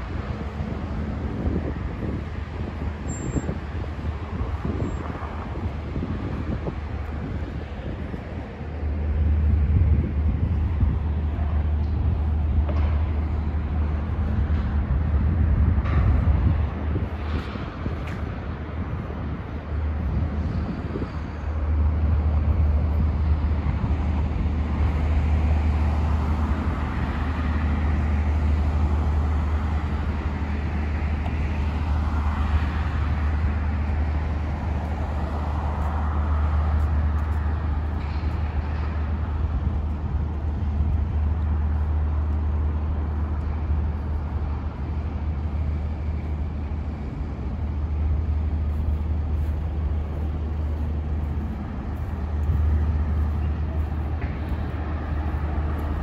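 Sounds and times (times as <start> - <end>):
cars passing: 0.0 - 56.0
low traffic rumble: 0.0 - 56.0.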